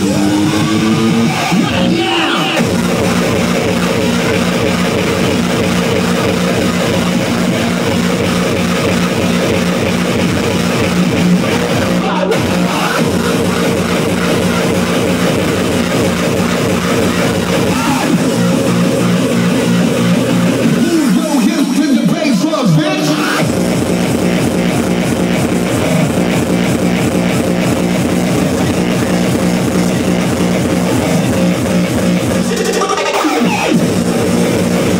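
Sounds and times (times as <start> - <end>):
hardcore techno music: 0.0 - 34.9.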